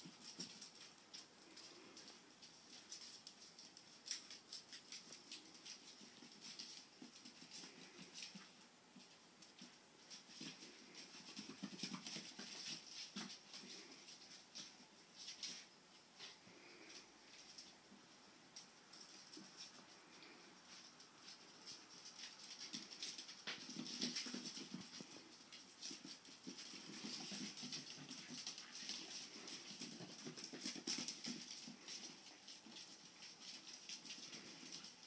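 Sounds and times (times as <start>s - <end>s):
claws clicking on hard floor: 0.0s - 15.7s, 18.6s - 35.0s.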